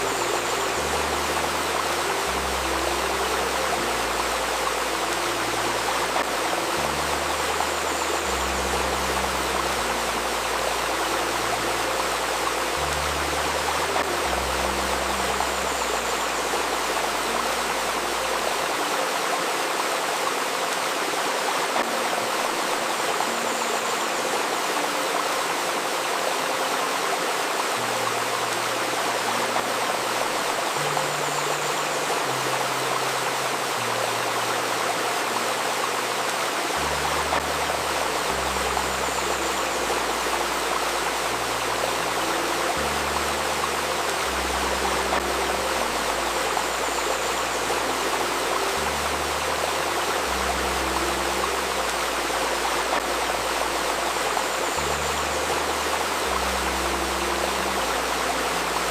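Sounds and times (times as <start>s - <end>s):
babbling river water: 0.0s - 58.9s
low synth tones: 0.0s - 58.9s.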